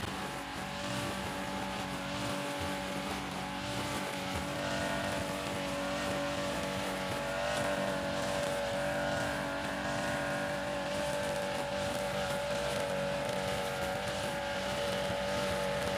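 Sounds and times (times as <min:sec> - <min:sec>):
brush cutter engine running: 0:00.0 - 0:15.9
nylon line cutting grass: 0:00.0 - 0:15.9.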